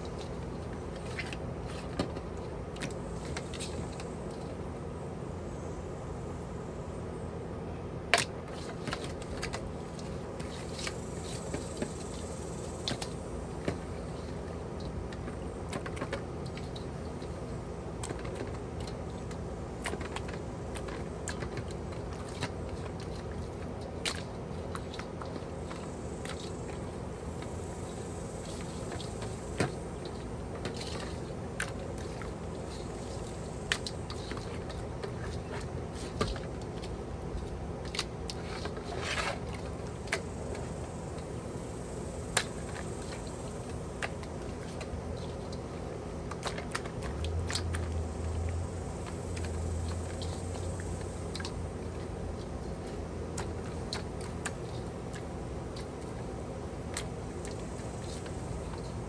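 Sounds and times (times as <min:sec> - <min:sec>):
steady low hum: 0:00.0 - 0:59.0
wet squishing of kneaded food: 0:08.2 - 0:59.0.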